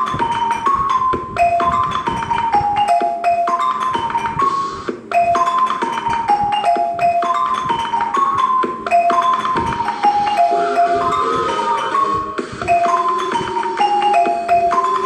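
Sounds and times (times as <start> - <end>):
marimba melody: 0.0 - 15.0.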